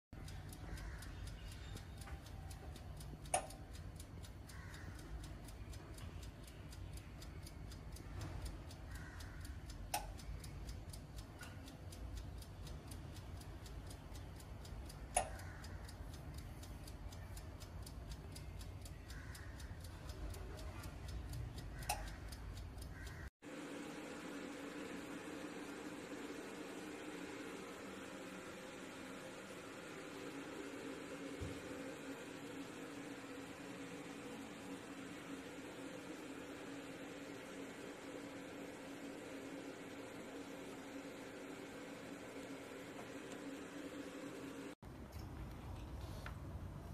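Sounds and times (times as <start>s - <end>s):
wind-up timer ticking fast: 0.2s - 23.3s, 24.1s - 44.8s
steady low hum: 0.2s - 46.9s.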